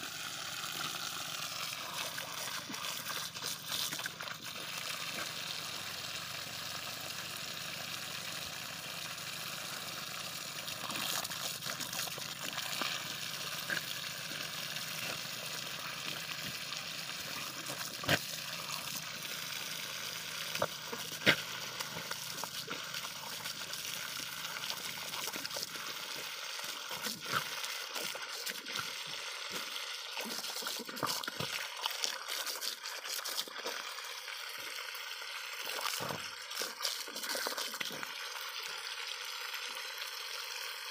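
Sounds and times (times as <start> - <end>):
water spraying from pipe leak: 0.0 - 40.9.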